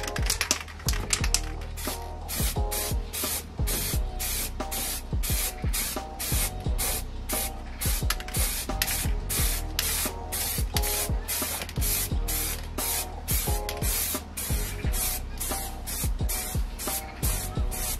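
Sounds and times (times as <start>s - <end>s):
spray paint can bursts: 0.0s - 17.9s.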